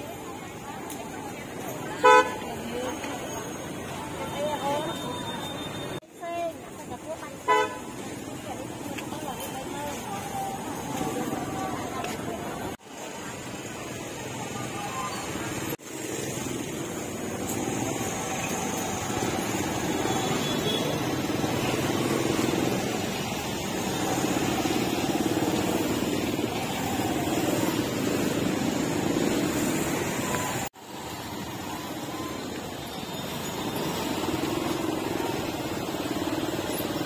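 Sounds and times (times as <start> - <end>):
motorbike traffic: 0.0 - 37.0.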